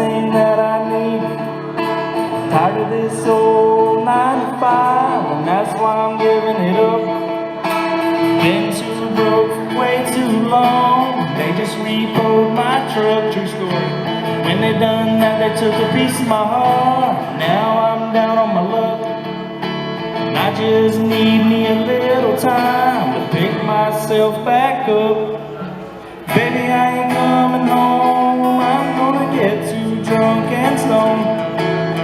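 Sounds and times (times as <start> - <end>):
acoustic guitar: 0.0 - 32.0
man singing: 0.0 - 32.0.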